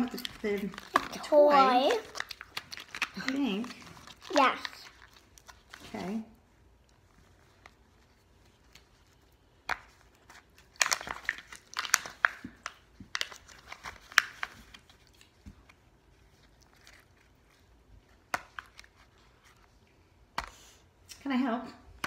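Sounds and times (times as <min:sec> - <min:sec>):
wrapper crinkling and tearing: 0:00.0 - 0:06.1, 0:06.9 - 0:19.7.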